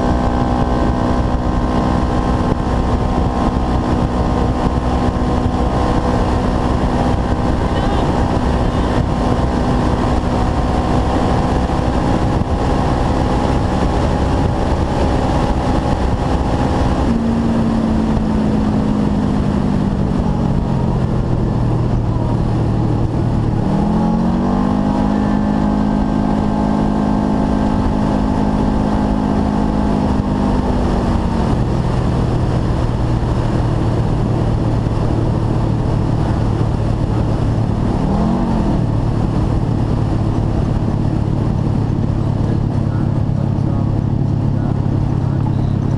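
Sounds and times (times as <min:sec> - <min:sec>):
gravel and wind noise: 0:00.0 - 0:45.9
off-road vehicle engine: 0:00.0 - 0:45.9.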